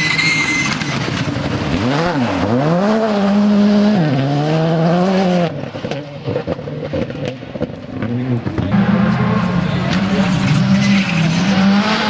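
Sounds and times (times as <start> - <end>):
rally car engine accelerating hard: 0.9 - 12.0.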